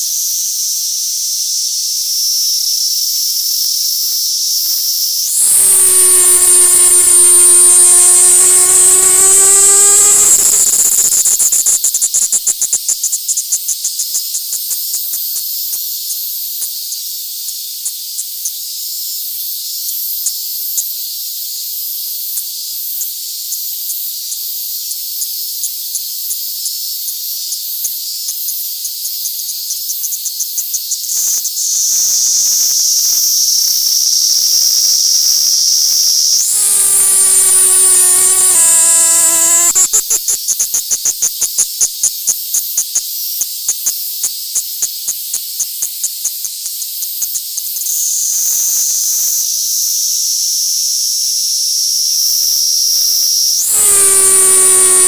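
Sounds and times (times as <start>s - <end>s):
cicada buzzing song: 0.0s - 55.0s.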